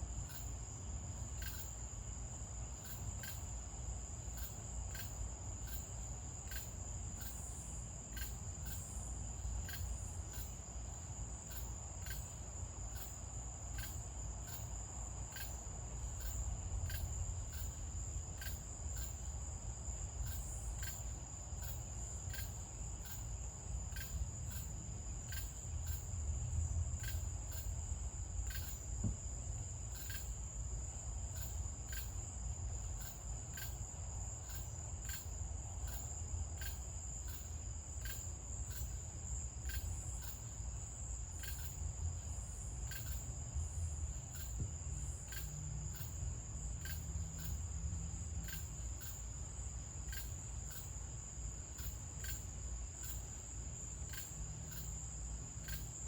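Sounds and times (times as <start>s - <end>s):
insect chirps: 0.0s - 56.0s
insects trilling: 0.0s - 56.0s.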